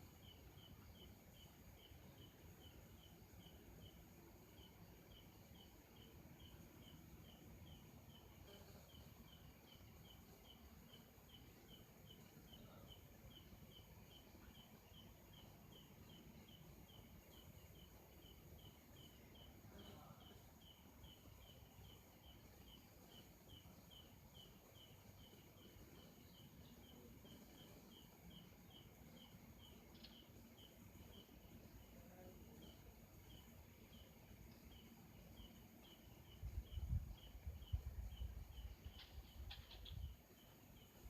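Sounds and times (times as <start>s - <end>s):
low background noise: 0.0s - 41.0s.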